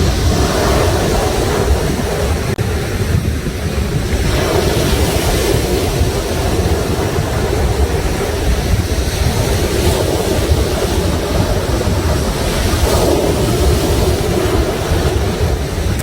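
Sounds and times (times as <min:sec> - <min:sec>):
sea waves breaking: 0:00.0 - 0:16.0
wind buffeting microphone: 0:00.0 - 0:16.0.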